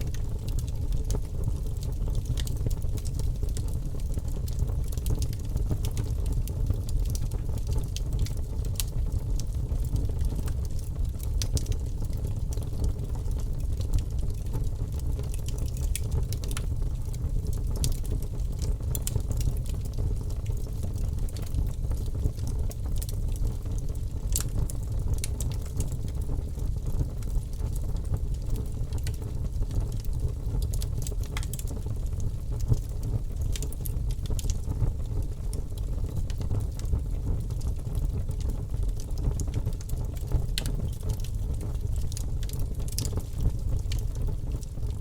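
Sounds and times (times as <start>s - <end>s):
bonfire crackling and popping: 0.0s - 45.0s.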